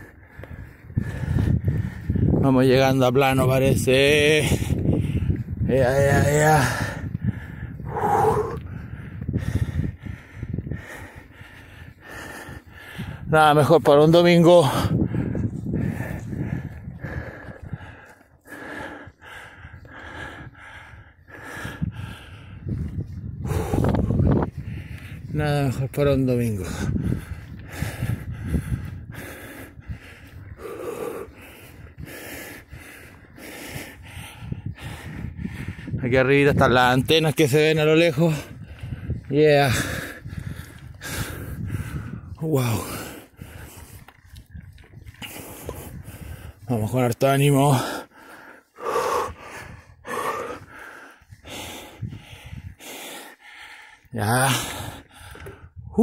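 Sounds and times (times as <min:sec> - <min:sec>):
heavy rhythmic breathing: 0:00.0 - 0:02.6, 0:04.0 - 0:36.4, 0:37.5 - 0:56.0.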